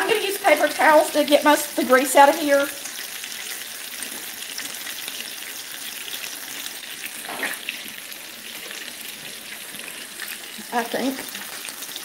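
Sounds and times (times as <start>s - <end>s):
meatballs sizzling in a skillet: 0.0s - 12.0s.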